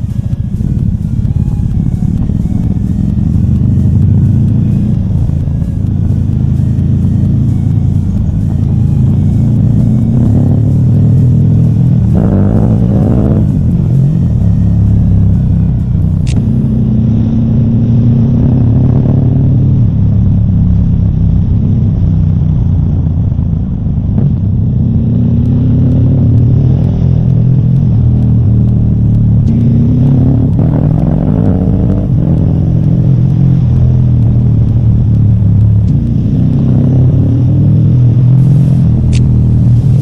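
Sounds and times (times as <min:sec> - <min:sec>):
vehicle engine revving: 0:00.0 - 0:40.0.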